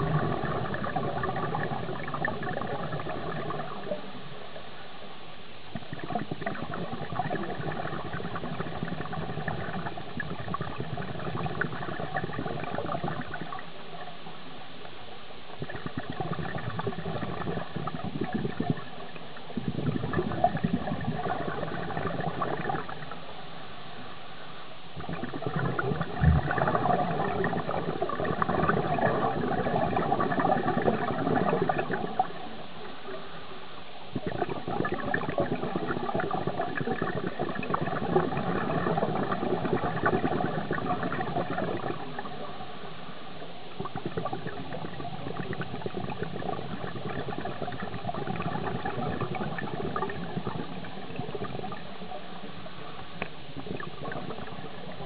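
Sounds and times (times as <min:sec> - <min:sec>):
underwater exhaust bubbles gurgling: 0:00.0 - 0:55.0.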